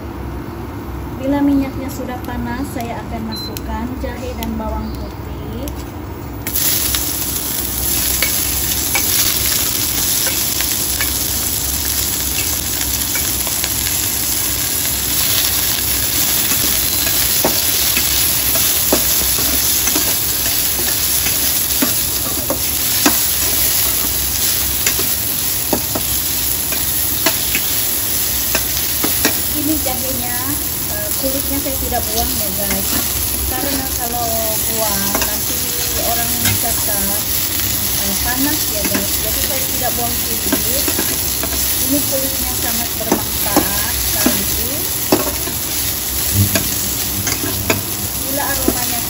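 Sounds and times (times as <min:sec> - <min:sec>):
ginger sizzling in hot oil: 0:06.4 - 0:49.0.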